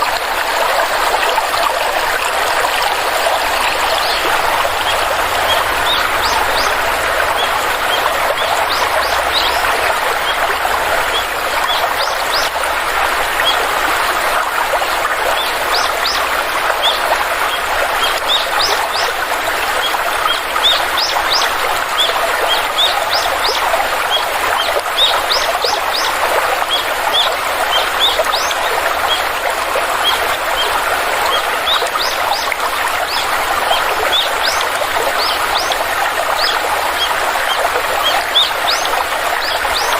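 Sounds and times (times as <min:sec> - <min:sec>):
stream flowing: 0:00.0 - 0:39.9
birds chirping: 0:02.6 - 0:14.1, 0:15.3 - 0:39.9.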